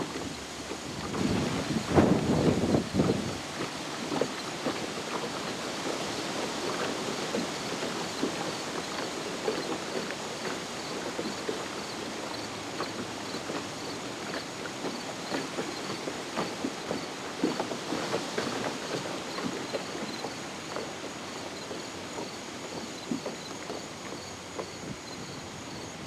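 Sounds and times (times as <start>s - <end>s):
splashes and knocks: 0.0s - 25.8s
floodwater rushing: 0.0s - 26.0s.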